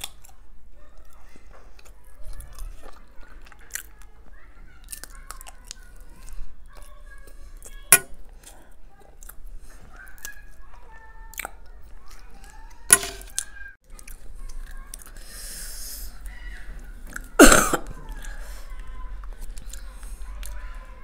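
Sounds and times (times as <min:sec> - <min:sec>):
chewing: 0:00.0 - 0:15.3, 0:16.1 - 0:21.0.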